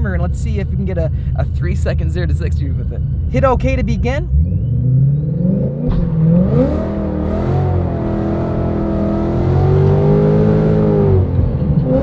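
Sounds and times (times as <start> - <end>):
car engine revving: 1.7 - 12.0.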